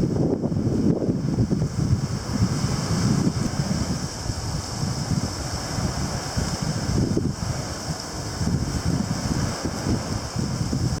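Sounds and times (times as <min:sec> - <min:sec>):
sea waves washing: 0:00.0 - 0:11.0
wind buffeting microphone: 0:00.0 - 0:11.0.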